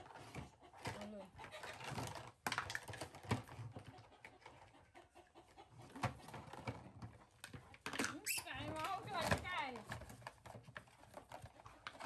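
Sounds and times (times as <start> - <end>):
plastic toys clicking on wood: 0.0 - 4.7, 5.9 - 12.0.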